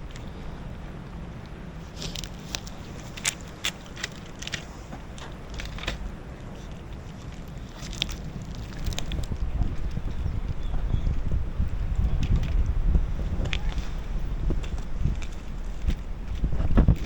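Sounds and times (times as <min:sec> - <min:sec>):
cats chewing food: 0:00.0 - 0:17.0
wind on microphone: 0:00.0 - 0:17.0.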